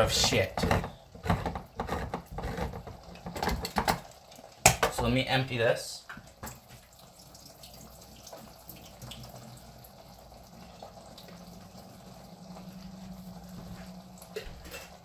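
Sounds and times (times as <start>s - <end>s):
liquid trickling into sink: 0.0s - 4.8s, 6.1s - 15.0s.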